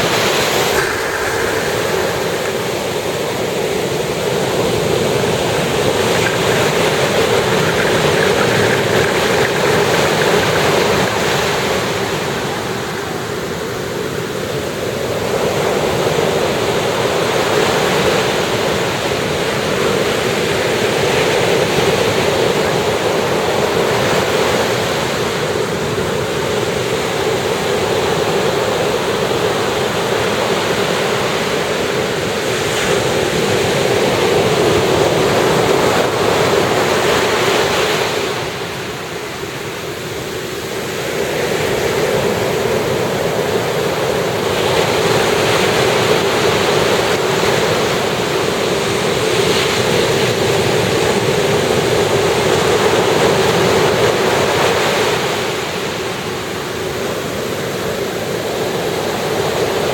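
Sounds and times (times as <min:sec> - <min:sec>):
surf breaking on beach: 0:00.0 - 0:59.9.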